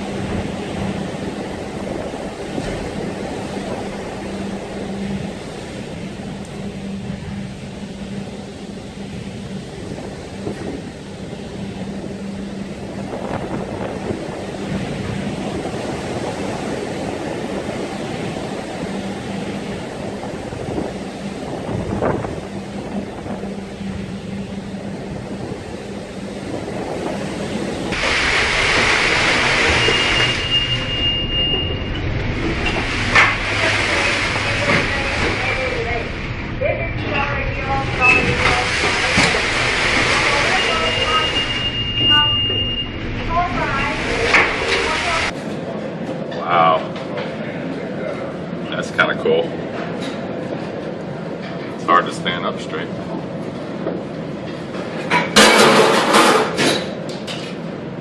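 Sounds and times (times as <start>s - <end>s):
ship low hum: 0.0s - 58.0s
wind and rough sea rushing: 0.0s - 58.0s.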